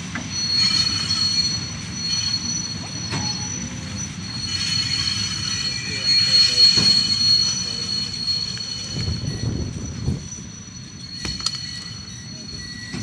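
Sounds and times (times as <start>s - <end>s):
locomotive low rumble: 0.0s - 13.0s
train wheels squealing: 0.0s - 13.0s.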